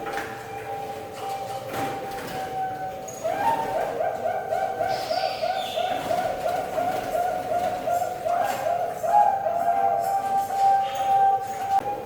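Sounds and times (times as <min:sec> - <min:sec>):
dove cooing: 0:00.6 - 0:12.0.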